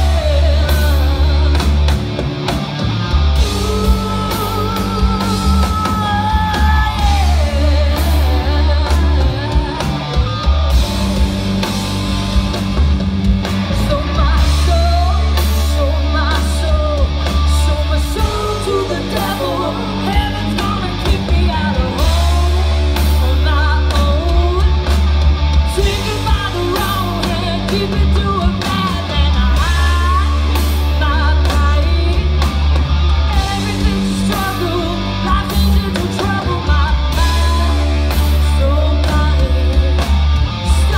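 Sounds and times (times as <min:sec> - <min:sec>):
woman singing: 0:00.0 - 0:02.1, 0:03.4 - 0:10.4, 0:13.8 - 0:25.0, 0:25.7 - 0:32.6, 0:33.3 - 0:40.9
blues-rock band playing: 0:00.0 - 0:40.9
distorted electric guitars: 0:00.0 - 0:40.9.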